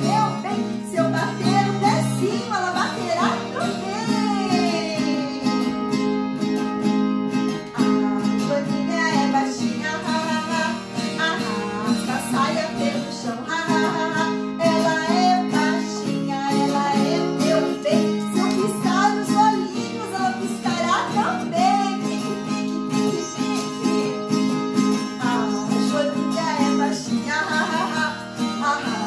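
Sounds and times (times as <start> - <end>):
woman singing: 0.0 - 6.4, 7.3 - 29.0
strummed acoustic guitar: 0.0 - 29.0.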